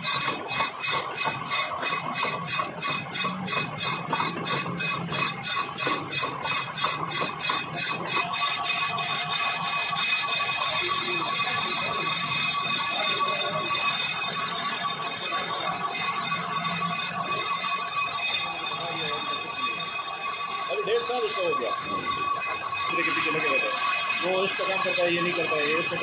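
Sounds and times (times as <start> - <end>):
lathe cutting tool scraping metal: 0.0 - 26.0.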